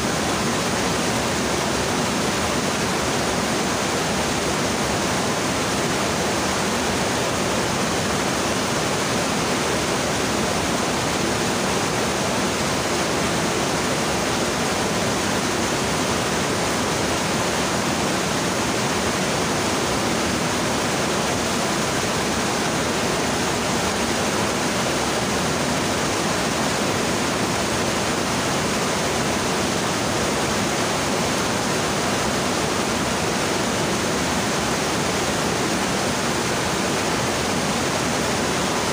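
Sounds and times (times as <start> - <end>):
stream rushing over boulders: 0.0 - 38.9.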